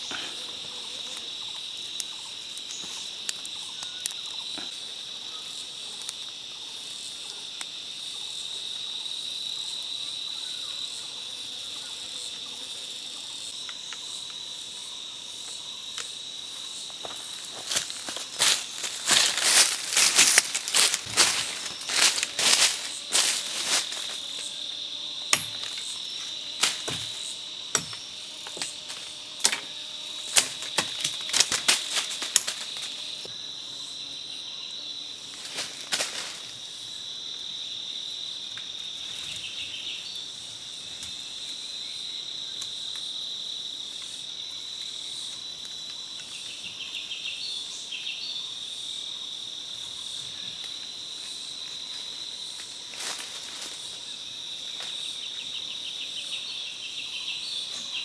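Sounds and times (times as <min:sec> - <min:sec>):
high-pitched insect trill: 0:00.0 - 0:58.0.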